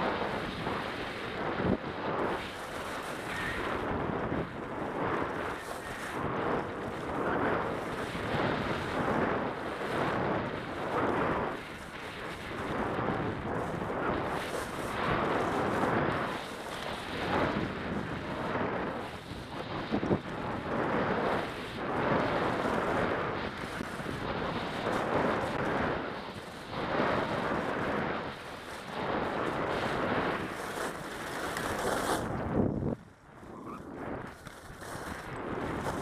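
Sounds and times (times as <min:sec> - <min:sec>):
skis scraping on hard snow: 0:00.0 - 0:36.0
wind rushing over microphone: 0:00.0 - 0:36.0.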